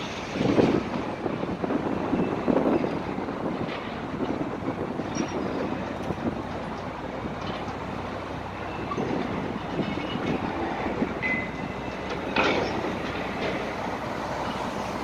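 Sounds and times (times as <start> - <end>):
demolition machinery: 0.0 - 15.0
road traffic rumble: 0.0 - 15.0.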